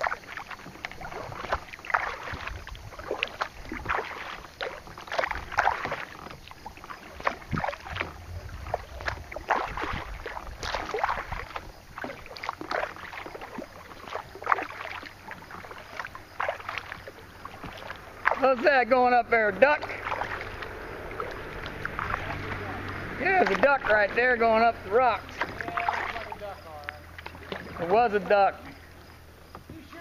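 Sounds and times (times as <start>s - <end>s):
paddle splashing in water: 0.0s - 30.0s
water sloshing against hull: 0.0s - 30.0s.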